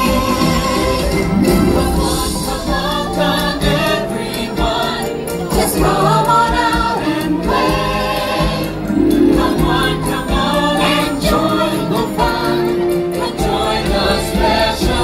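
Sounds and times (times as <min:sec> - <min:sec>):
group singing over speakers: 0:00.0 - 0:15.0.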